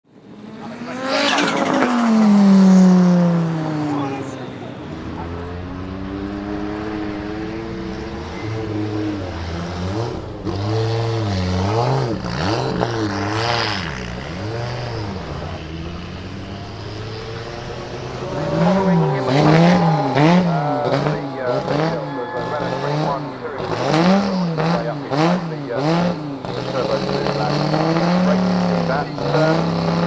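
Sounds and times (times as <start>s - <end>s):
engine throttle blips: 0.6s - 30.0s
race car engine idling: 3.5s - 30.0s.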